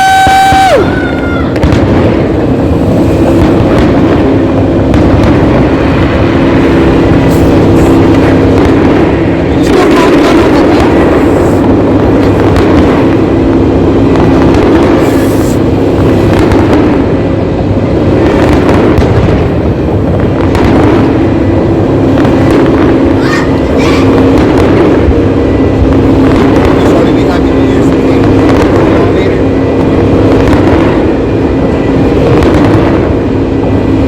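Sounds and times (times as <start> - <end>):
fireworks bangs: 0.0 - 34.0
loud distorted rumble: 0.0 - 34.0.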